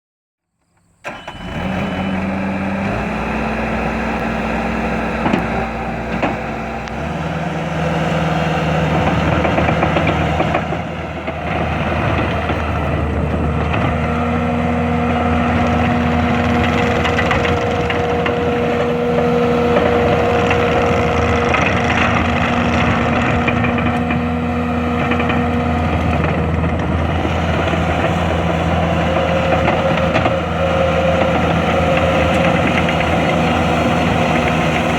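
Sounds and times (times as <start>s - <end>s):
diesel engine running: 1.0s - 34.9s.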